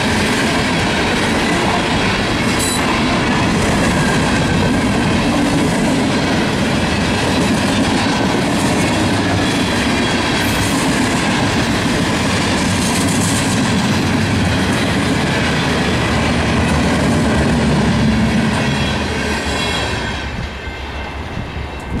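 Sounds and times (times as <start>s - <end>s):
freight train rolling past: 0.0s - 22.0s.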